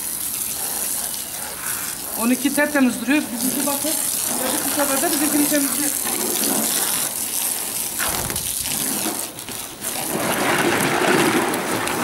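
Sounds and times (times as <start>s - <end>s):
hose spraying water on car: 0.0s - 12.0s.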